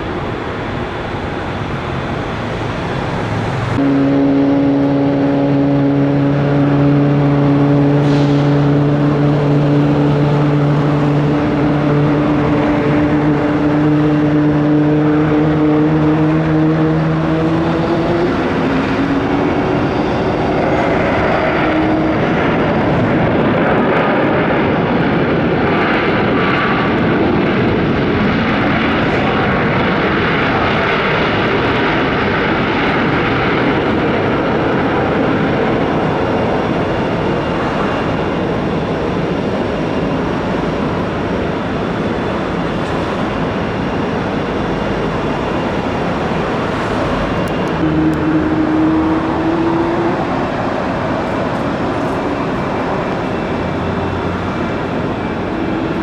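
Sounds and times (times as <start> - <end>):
jet engine hum: 0.0 - 56.0
loud rushing roar: 0.0 - 56.0.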